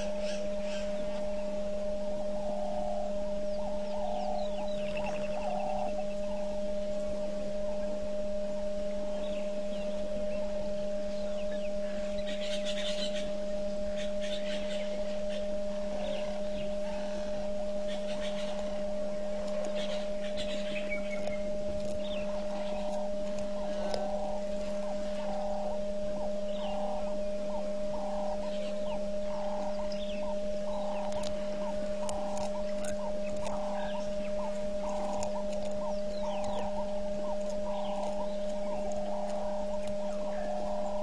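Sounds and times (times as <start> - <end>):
birds chirping faintly: 0.0 - 41.0
electrical hum: 0.0 - 41.0.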